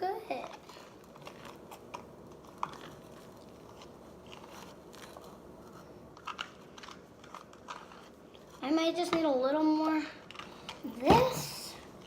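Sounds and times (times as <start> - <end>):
slime squishing: 0.3 - 12.0.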